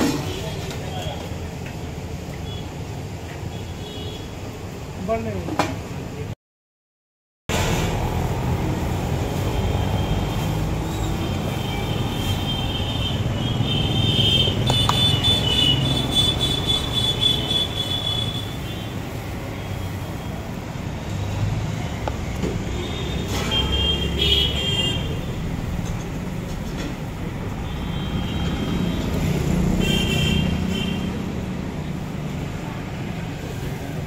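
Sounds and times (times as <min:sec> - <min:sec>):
road traffic rumble: 0:00.0 - 0:06.4, 0:07.5 - 0:34.0.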